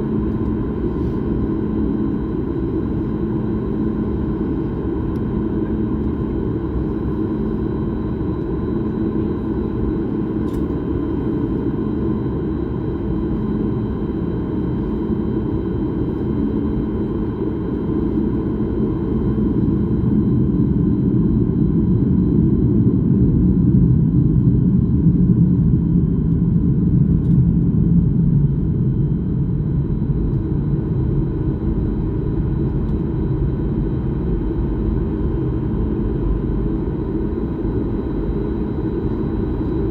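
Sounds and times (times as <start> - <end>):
airliner cabin engine roar: 0.0 - 39.9.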